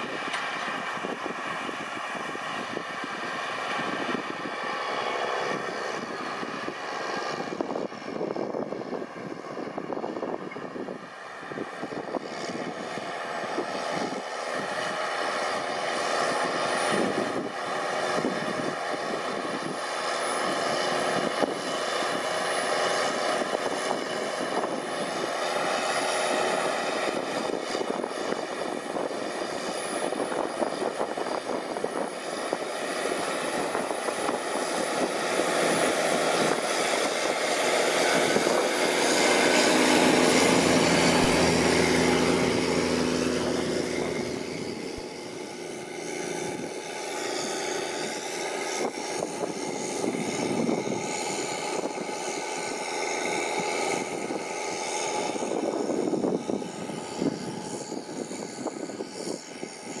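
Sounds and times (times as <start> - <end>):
tractor engine running under load: 0.0 - 60.0.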